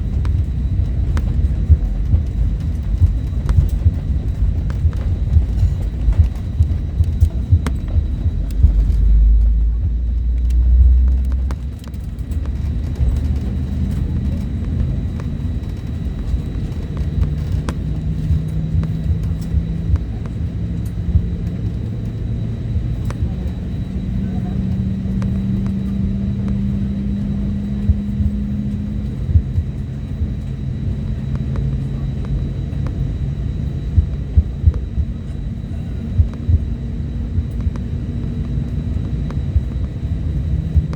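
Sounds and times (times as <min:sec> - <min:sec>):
aircraft cabin rumble: 0:00.0 - 0:40.9
engine hum: 0:00.0 - 0:40.9.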